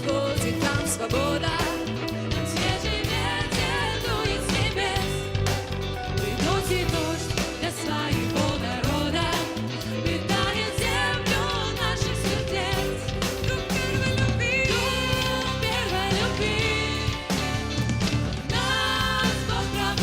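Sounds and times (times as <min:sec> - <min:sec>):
person singing: 0:00.0 - 0:05.3, 0:06.2 - 0:17.7
drums: 0:00.0 - 0:20.0
guitar: 0:00.0 - 0:20.0.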